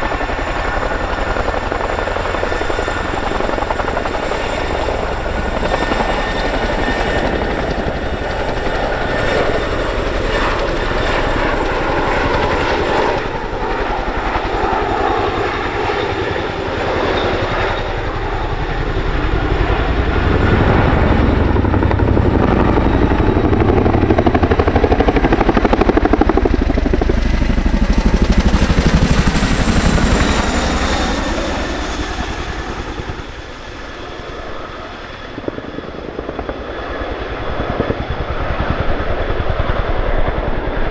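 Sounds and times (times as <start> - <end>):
helicopter rotors and engines: 0.0 - 40.9.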